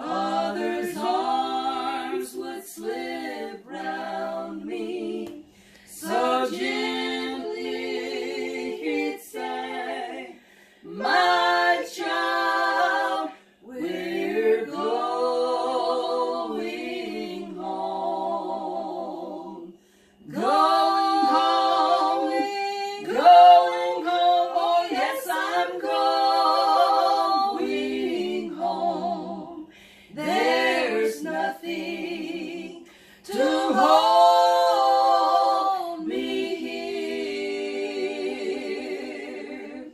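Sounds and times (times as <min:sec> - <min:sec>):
women singing a cappella: 0:00.0 - 0:39.9.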